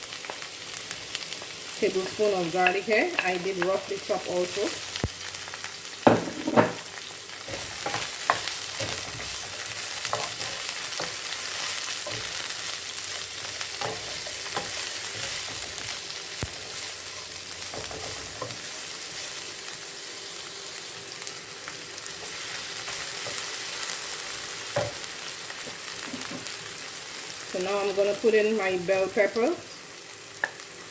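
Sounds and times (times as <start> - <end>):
onions sizzling in hot oil: 0.0 - 30.9.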